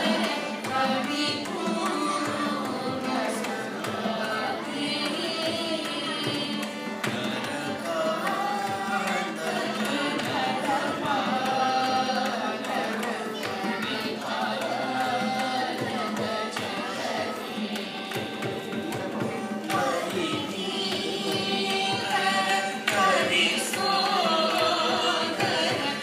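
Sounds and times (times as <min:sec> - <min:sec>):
group of voices singing: 0:00.0 - 0:26.0
mridangam drum strokes: 0:00.0 - 0:26.0
violin: 0:00.0 - 0:26.0.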